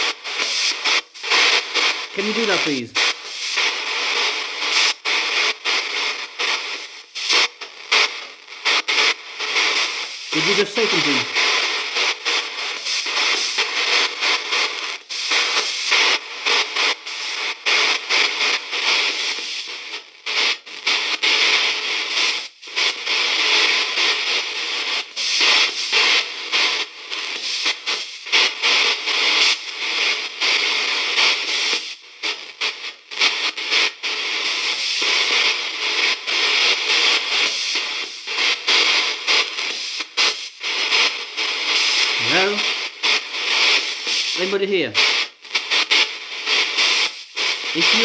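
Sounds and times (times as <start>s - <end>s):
choppy radio static: 0.0s - 48.0s.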